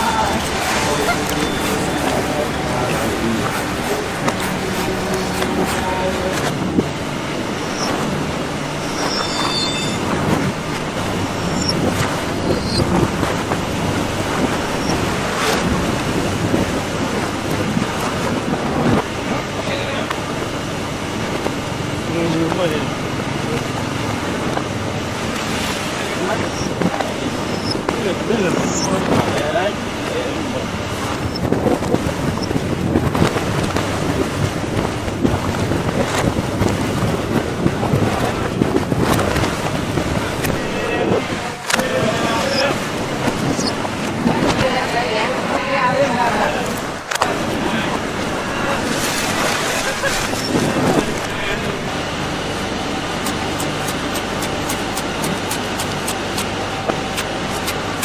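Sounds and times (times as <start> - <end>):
conveyor belt running: 0.0 - 58.0
steady machine noise: 0.0 - 58.0.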